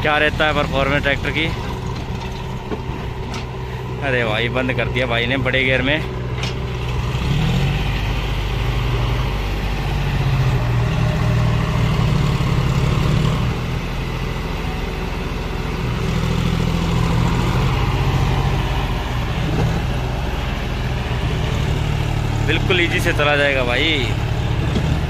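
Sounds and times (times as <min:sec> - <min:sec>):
tractor engine labouring: 0:00.0 - 0:25.0.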